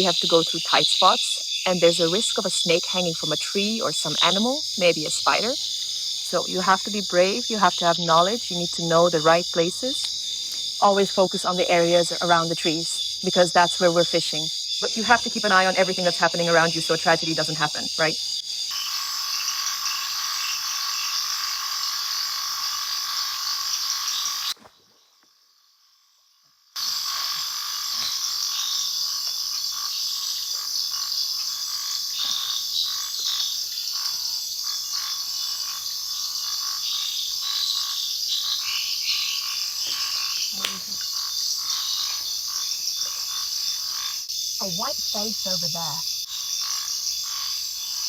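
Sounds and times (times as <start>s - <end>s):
frogs calling: 0.0s - 25.9s, 26.7s - 48.0s.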